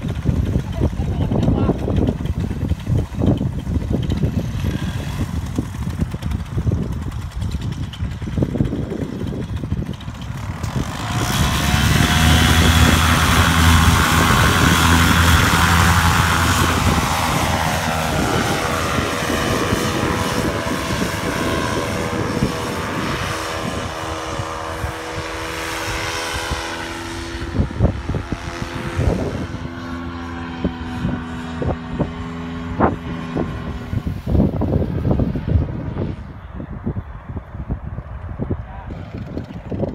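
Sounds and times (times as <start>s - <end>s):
paramotor engine and propeller: 0.0s - 39.9s
wind buffeting microphone: 0.0s - 39.9s.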